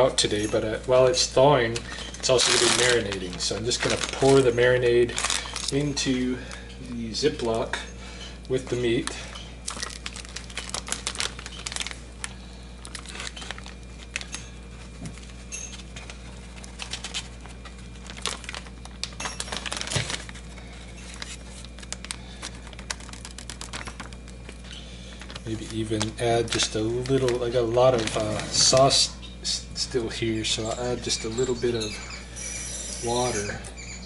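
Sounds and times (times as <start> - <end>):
plastic bag crinkling: 0.0 - 34.0.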